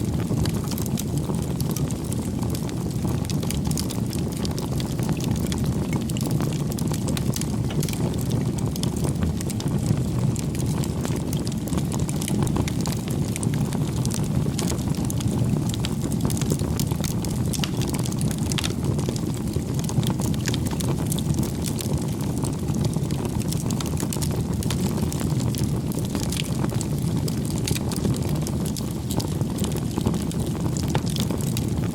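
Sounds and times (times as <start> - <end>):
burning wood crackling and popping: 0.0 - 31.9
campfire flames rumbling: 0.0 - 31.9.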